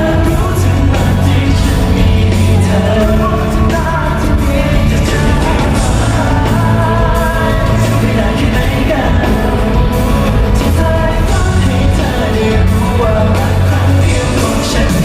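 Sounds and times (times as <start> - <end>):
lead vocalist singing: 0.0 - 15.0
live pop-rock band: 0.0 - 15.0.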